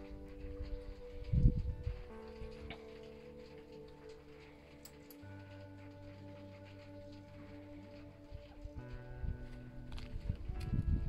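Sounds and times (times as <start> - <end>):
soft sustained background music: 0.0 - 11.0.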